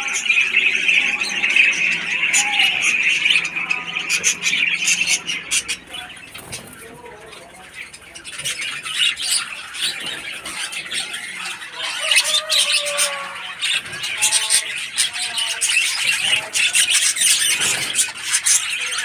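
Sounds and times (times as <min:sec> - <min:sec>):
parrots and sparrows chirping: 0:00.0 - 0:19.0.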